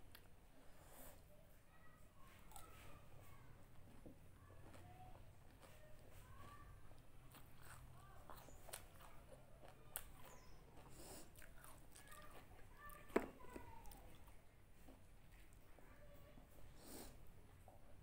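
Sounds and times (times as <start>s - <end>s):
faint chewing and crunching: 0.0s - 18.0s.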